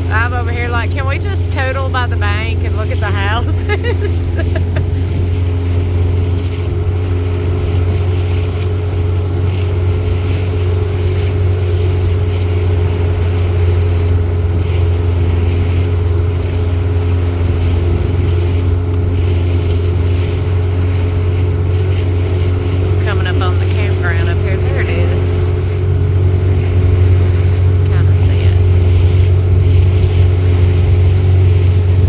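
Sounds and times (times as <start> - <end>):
boat motor running: 0.0 - 32.0
wind buffeting microphone: 0.0 - 32.0.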